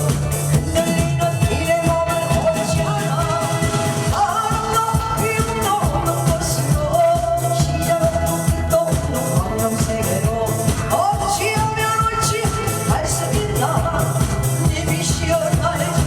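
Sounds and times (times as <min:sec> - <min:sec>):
band accompaniment with drums: 0:00.0 - 0:16.0
person singing: 0:00.0 - 0:16.0.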